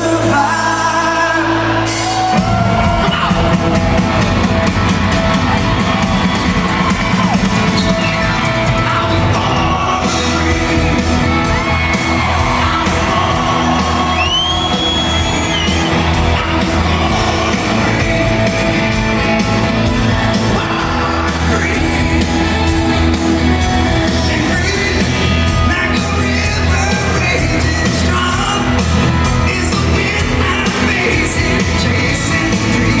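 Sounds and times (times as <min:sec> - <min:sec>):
person singing: 0:00.0 - 0:04.5, 0:06.8 - 0:33.0
crowd shouting and whooping: 0:00.0 - 0:33.0
live rock band playing: 0:00.0 - 0:33.0.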